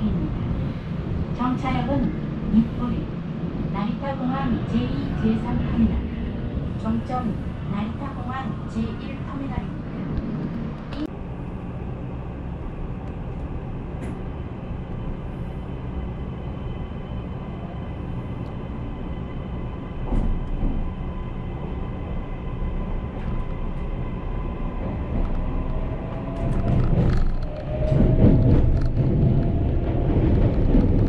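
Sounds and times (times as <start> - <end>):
train low rumble: 0.0 - 31.0.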